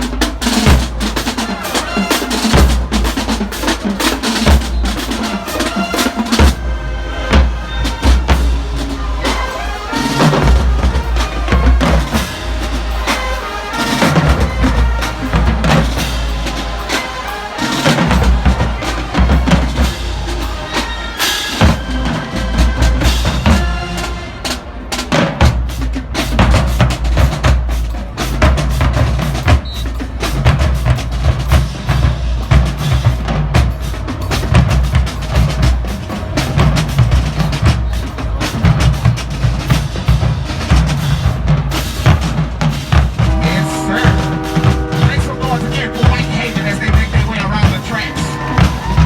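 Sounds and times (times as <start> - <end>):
bass drums and snare drums: 0.0 - 49.0
marching band playing: 0.0 - 49.0.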